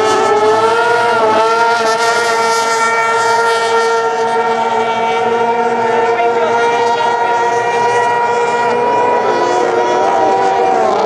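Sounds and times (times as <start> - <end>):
racing outboard engines droning: 0.0 - 11.0.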